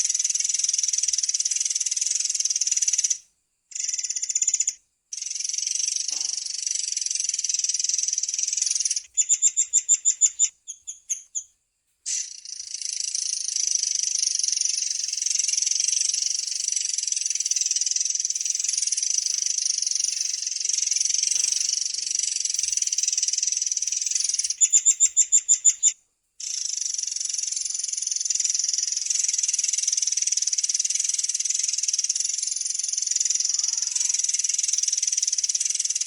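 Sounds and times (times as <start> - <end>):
songbird high-pitched trill: 3.7 - 11.5, 12.1 - 36.0.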